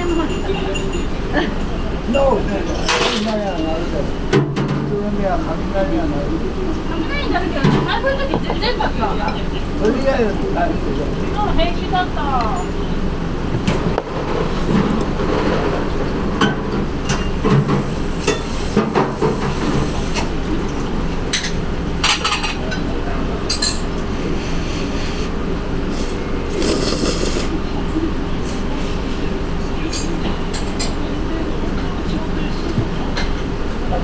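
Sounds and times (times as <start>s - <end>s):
eatery rumble and hum: 3.6s - 34.0s.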